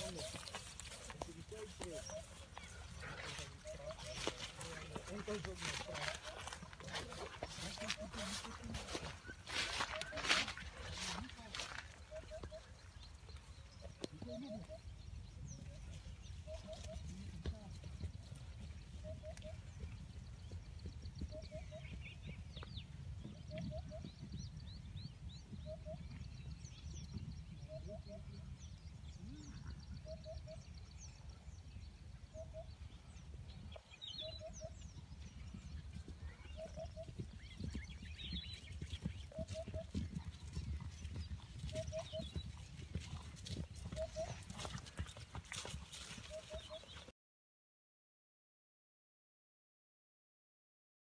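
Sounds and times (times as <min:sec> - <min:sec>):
birds chirping: 0:00.0 - 0:47.1
hoofbeats on grass: 0:00.0 - 0:47.1.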